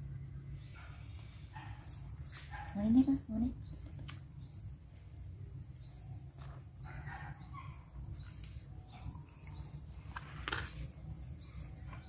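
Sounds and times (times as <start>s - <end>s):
low steady hum: 0.0s - 12.0s
small bird chirping: 0.0s - 12.0s.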